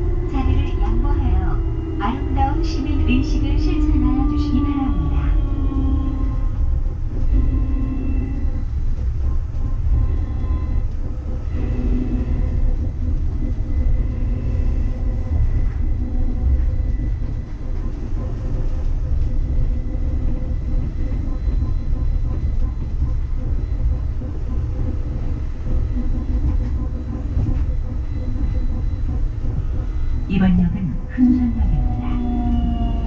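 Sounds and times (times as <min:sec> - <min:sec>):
faint whining tones: 0:00.0 - 0:33.0
train interior rumble: 0:00.0 - 0:33.0.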